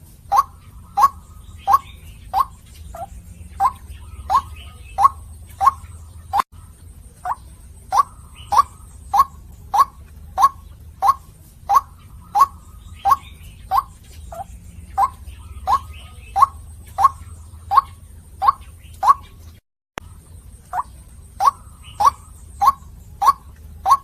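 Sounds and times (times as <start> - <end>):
faint low hum: 0.0 - 24.0
waterhen calling kwak notes: 0.2 - 6.5, 7.2 - 24.0.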